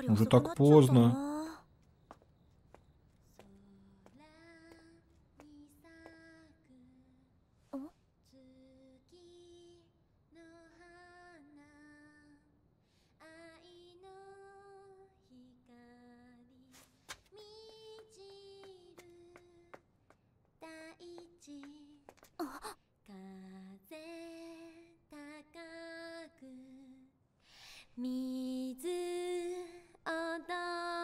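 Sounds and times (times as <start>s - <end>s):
person singing softly: 0.0s - 1.7s, 3.3s - 12.5s, 13.2s - 19.8s, 20.6s - 27.1s, 27.8s - 31.0s.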